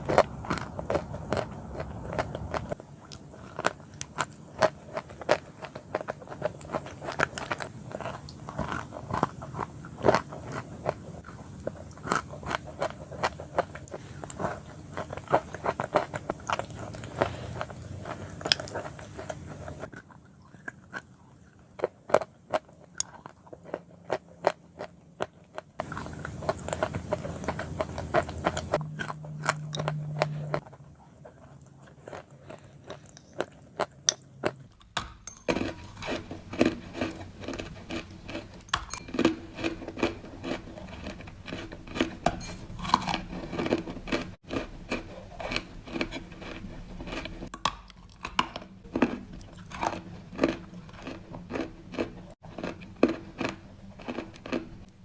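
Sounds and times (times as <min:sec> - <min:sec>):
crunchy snacks crunching: 0:00.0 - 0:55.0.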